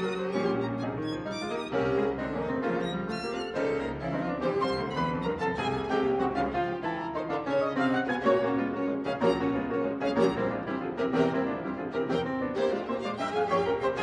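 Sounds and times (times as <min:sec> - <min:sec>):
violin music: 0:00.0 - 0:14.0.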